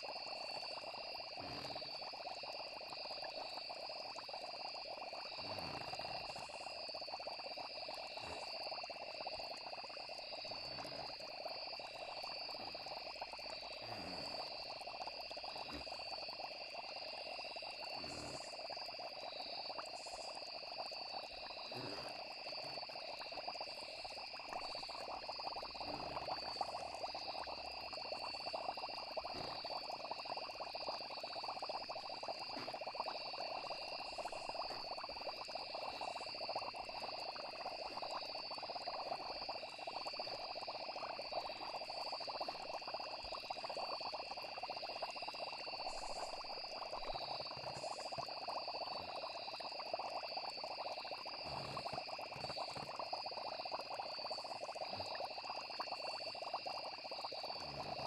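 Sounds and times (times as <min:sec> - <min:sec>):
frog chorus: 0:00.0 - 0:58.0
insects trilling: 0:00.0 - 0:58.0.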